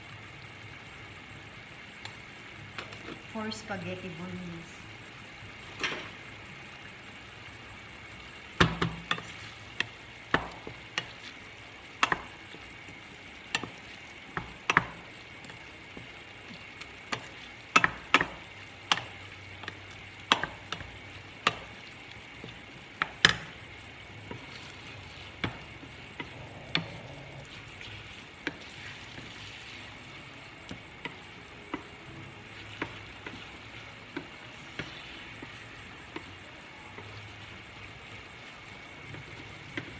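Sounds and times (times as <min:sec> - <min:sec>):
meat sizzling: 0:00.0 - 0:39.9.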